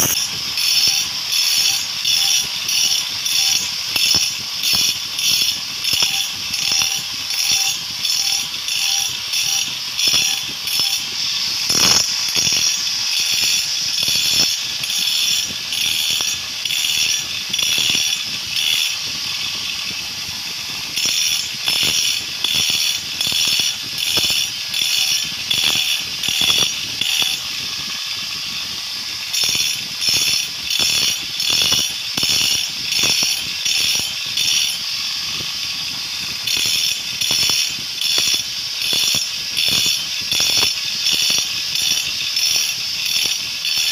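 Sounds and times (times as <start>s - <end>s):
angle grinder on millstone: 0.0s - 43.9s.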